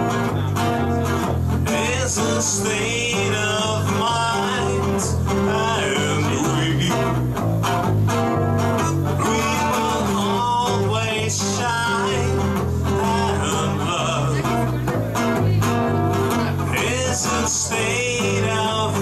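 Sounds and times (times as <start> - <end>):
man singing into a microphone: 0.0 - 7.4, 8.9 - 15.2, 16.2 - 19.0
electric guitar: 0.0 - 19.0
strummed acoustic guitar: 0.0 - 19.0.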